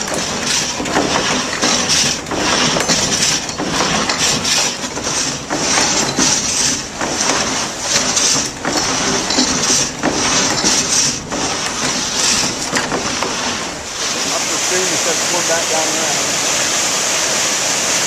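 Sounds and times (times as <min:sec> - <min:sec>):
water rushing and splashing: 0:00.0 - 0:18.0.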